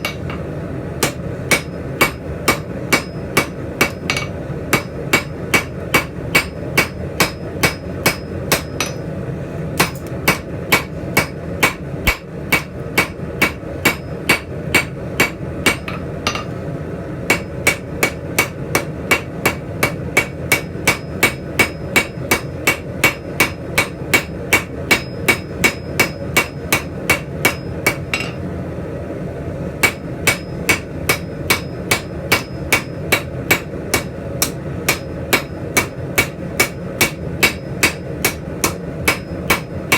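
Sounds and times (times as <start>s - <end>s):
hammer striking steel on anvil: 0.0s - 9.1s, 9.8s - 16.6s, 17.3s - 28.5s, 29.8s - 39.9s.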